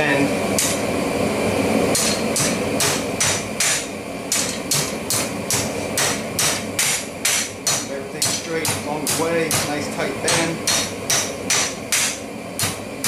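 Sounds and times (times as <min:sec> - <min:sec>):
hammer striking steel on anvil: 0:00.6 - 0:00.8, 0:01.9 - 0:12.8.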